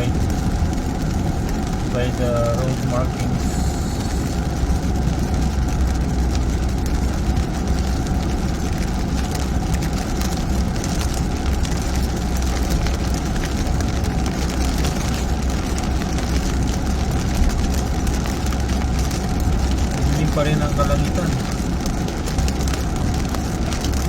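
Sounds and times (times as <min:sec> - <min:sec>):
engine and tyres on wet road: 0:00.0 - 0:24.0
rain pattering on car: 0:00.0 - 0:24.0.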